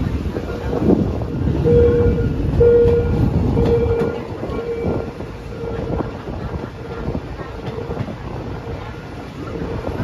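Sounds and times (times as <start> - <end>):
train running on rails: 0.0 - 10.0.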